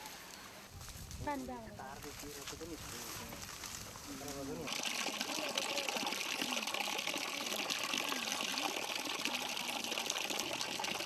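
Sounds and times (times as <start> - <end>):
spring water trickling and splashing: 2.0 - 11.0.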